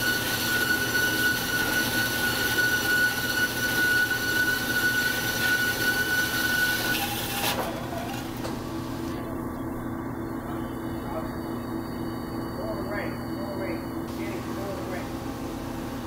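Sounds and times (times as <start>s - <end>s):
band saw blade whining: 0.0s - 14.7s
machine running noise: 0.0s - 16.0s.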